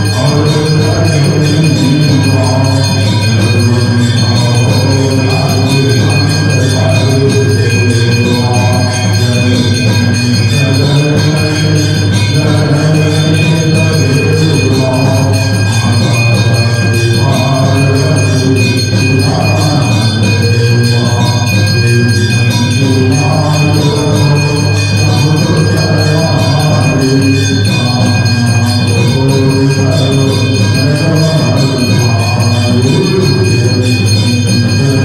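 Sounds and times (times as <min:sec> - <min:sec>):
chorus singing devotional song: 0:00.0 - 0:03.8, 0:04.4 - 0:22.0, 0:22.6 - 0:35.0
temple bells ringing: 0:00.0 - 0:35.0.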